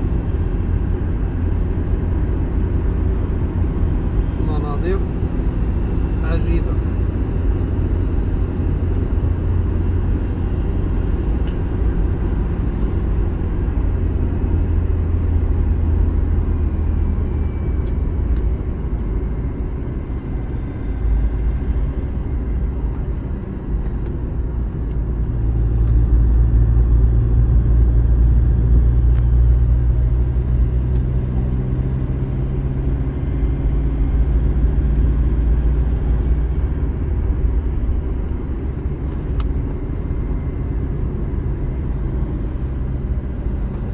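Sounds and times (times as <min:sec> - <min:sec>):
car engine: 0:00.0 - 0:43.9
road noise: 0:00.0 - 0:43.9.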